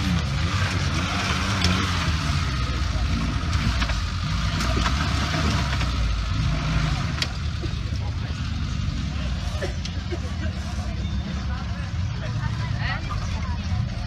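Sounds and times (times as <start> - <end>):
off-road vehicle engine at low revs: 0.0 - 14.0.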